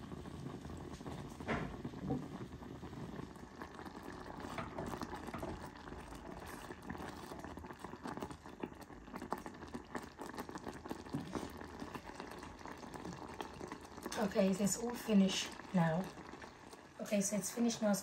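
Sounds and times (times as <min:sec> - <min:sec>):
porridge bubbling and popping: 0:00.0 - 0:18.0.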